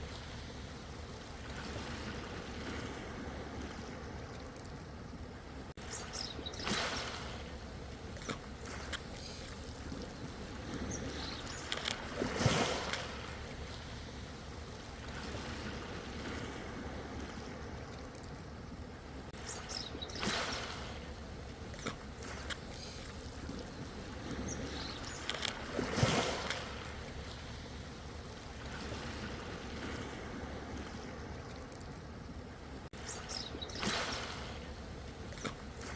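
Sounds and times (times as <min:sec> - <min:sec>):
ocean waves washing in: 0:00.0 - 0:35.9
water splashes: 0:00.0 - 0:35.9.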